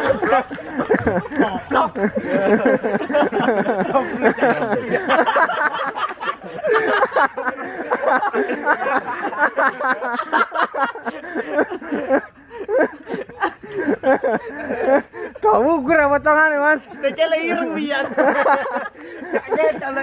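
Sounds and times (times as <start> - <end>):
men laughing and chattering: 0.0 - 20.0.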